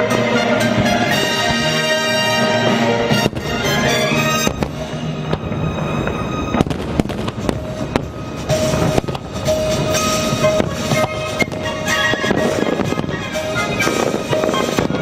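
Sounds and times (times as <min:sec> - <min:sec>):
fireworks bangs and crackles: 0:00.0 - 0:15.0
orchestral show music: 0:00.0 - 0:15.0.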